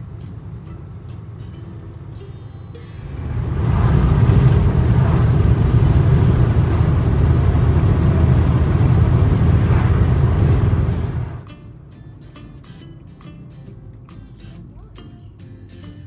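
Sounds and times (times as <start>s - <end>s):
car interior road rumble: 0.0s - 14.9s.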